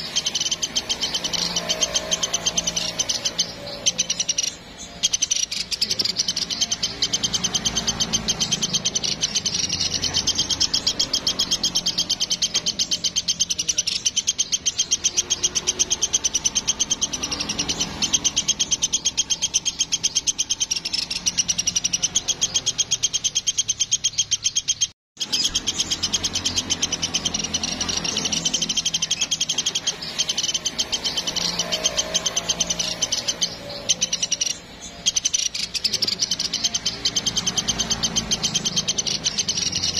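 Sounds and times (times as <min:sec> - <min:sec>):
woodpecker rattling trill: 0:00.0 - 0:39.9.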